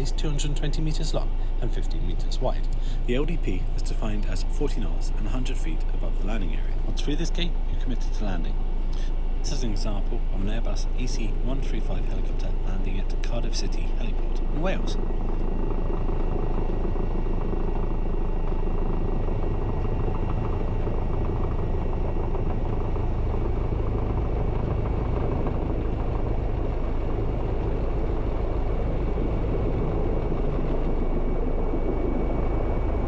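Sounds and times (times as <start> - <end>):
faint high whine: 0.0 - 33.0
helicopter rotor and engine noise: 0.0 - 33.0.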